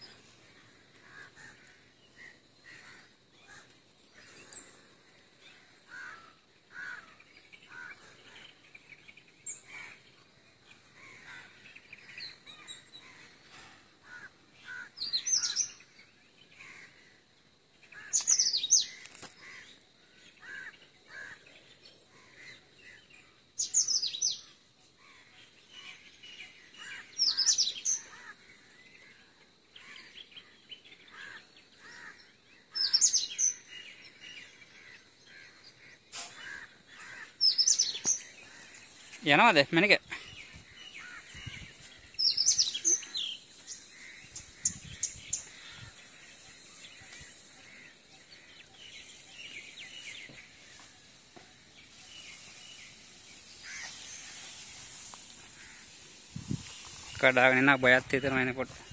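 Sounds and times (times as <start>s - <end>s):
birds chirping softly: 0.0s - 58.9s
high falling bird calls: 0.0s - 58.9s.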